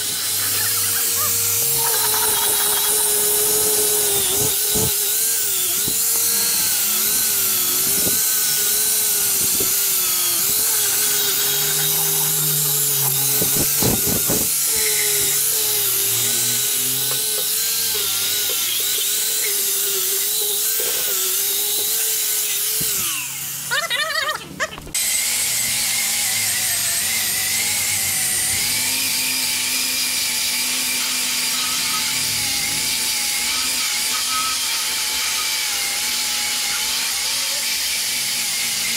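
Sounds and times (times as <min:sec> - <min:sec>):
wire wheel grinder on steel: 0:00.0 - 0:24.0, 0:25.0 - 0:38.9.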